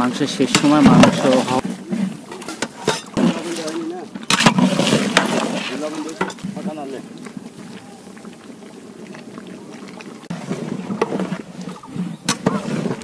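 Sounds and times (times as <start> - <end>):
curry boiling and bubbling: 0.0 - 13.0
metal ladle stirring: 0.0 - 13.0.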